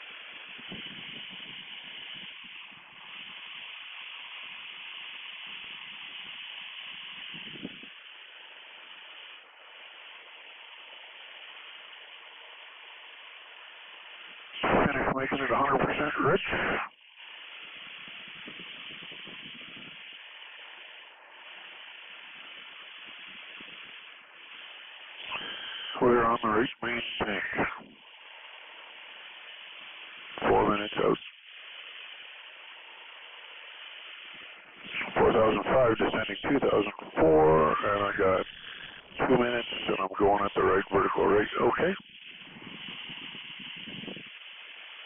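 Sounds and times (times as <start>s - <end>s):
aircraft cockpit engine and airflow hiss: 0.0s - 45.0s.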